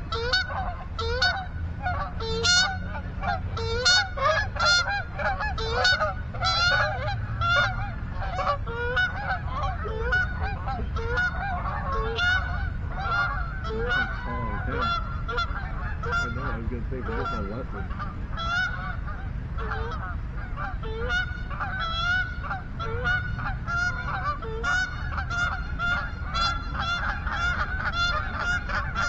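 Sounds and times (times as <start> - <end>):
geese honking: 0.0 - 29.0
steady low rumble: 0.0 - 29.0.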